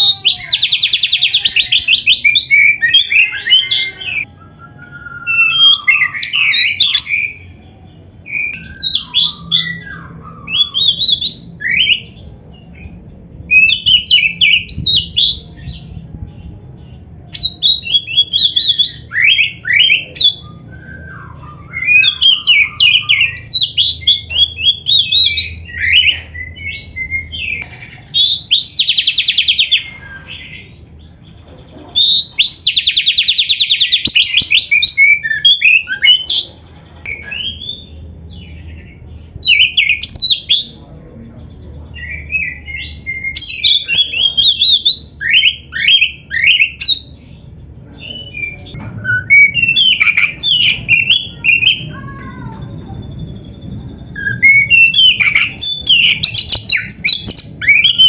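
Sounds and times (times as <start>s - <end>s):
bird singing whistles and chirps: 0.0s - 7.6s, 8.2s - 31.1s, 32.0s - 36.5s, 41.9s - 52.0s, 52.8s - 58.0s.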